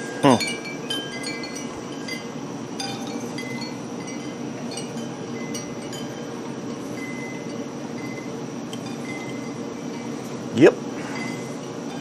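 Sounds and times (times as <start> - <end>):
steady low hum: 0.0 - 12.0
wind chimes ringing: 0.0 - 12.0.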